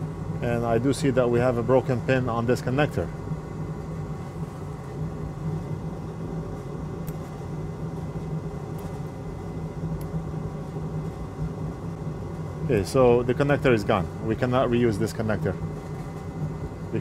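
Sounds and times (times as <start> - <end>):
low ventilation hum: 0.0 - 17.0.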